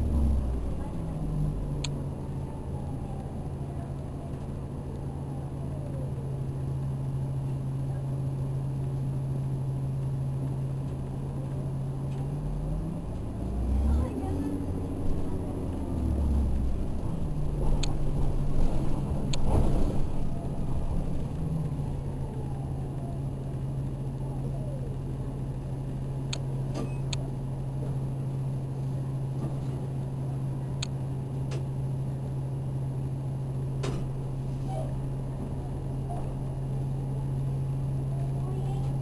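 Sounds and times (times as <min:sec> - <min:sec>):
bus drivetrain hum: 0:00.0 - 0:39.0
road and body noise: 0:00.0 - 0:39.0.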